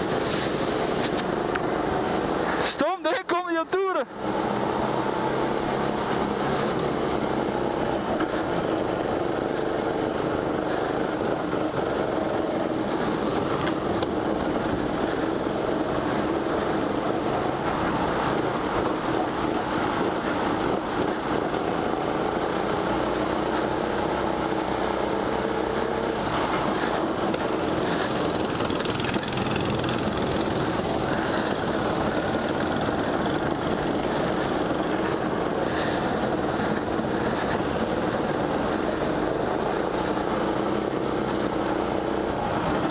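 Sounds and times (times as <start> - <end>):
go-kart motor running: 4.0 - 42.9.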